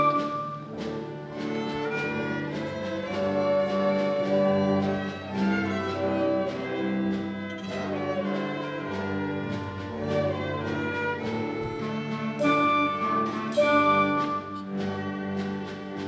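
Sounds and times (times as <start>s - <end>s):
orchestral string music: 0.0s - 16.0s.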